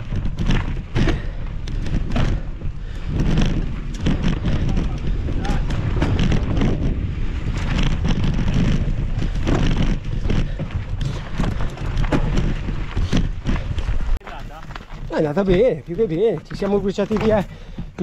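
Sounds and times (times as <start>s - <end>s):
bike clattering over stones: 0.0s - 18.0s
mountain bike rumbling on dirt: 0.0s - 18.0s
wind buffeting microphone: 0.0s - 18.0s.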